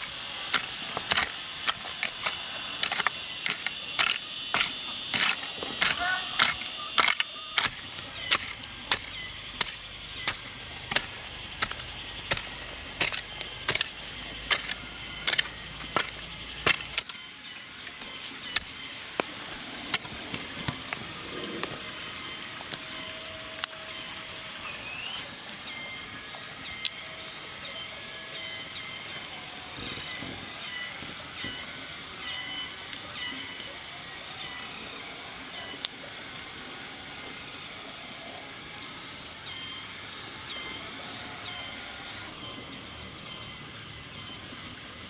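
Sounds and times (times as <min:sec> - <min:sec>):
steady high buzz: 0:00.0 - 0:45.0.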